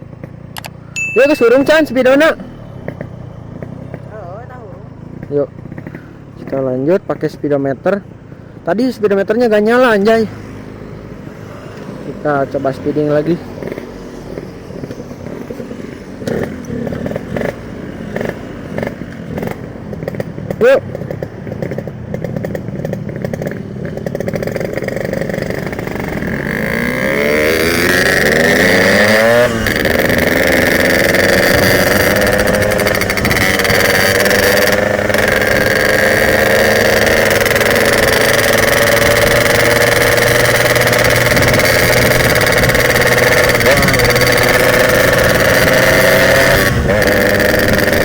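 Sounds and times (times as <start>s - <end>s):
two-stroke motorcycle engine accelerating: 0.0s - 7.3s, 9.6s - 48.0s.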